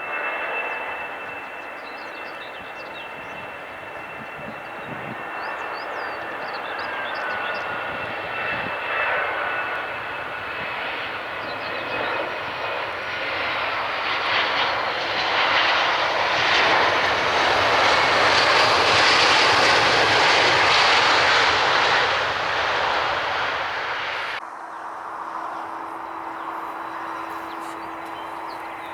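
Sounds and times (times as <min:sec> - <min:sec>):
airliner engines passing: 0:00.0 - 0:28.9.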